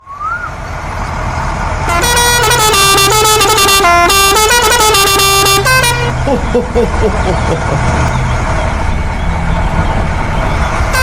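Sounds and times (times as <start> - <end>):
vehicle engine rumbling: 0.1 - 11.0.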